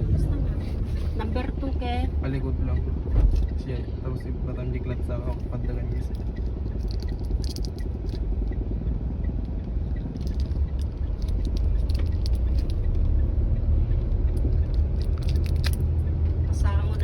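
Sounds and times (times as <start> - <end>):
car engine rumbling in low gear: 0.0 - 17.0.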